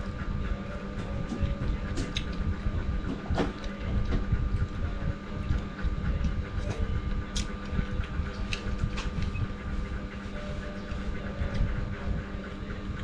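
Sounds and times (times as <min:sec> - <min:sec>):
low rumble and hum: 0:00.0 - 0:13.0.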